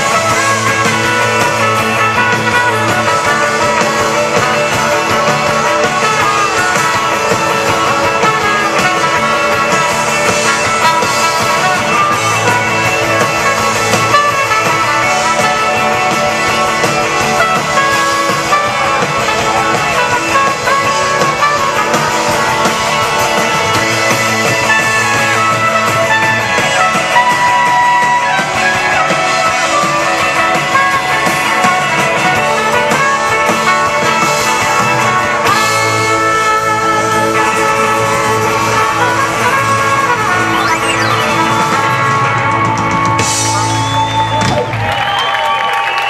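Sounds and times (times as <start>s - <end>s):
drums: 0.0s - 46.0s
electric guitars: 0.0s - 46.0s.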